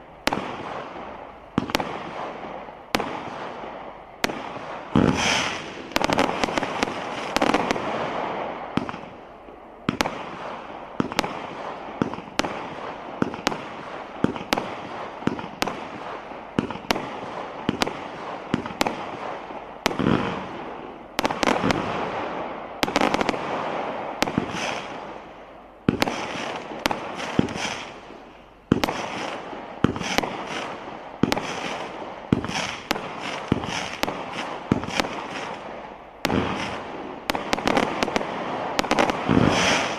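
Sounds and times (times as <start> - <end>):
fireworks firing shots: 0.0 - 39.9.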